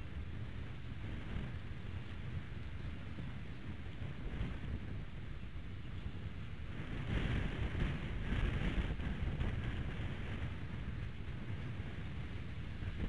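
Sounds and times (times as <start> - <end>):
high wind on microphone: 0.0 - 13.0.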